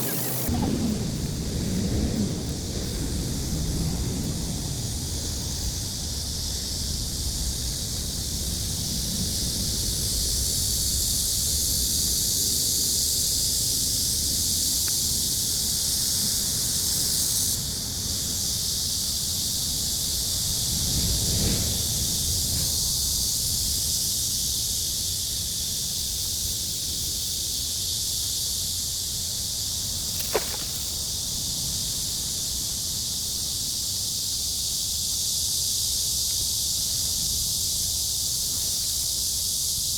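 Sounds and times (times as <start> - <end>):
cicada chorus: 0.0 - 39.9.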